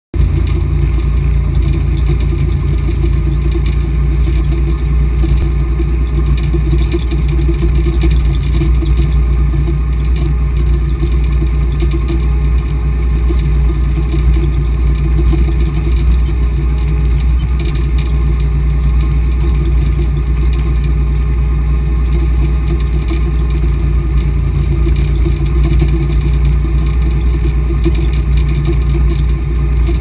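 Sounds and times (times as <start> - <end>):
tractor diesel engine rumble: 0.1 - 30.0.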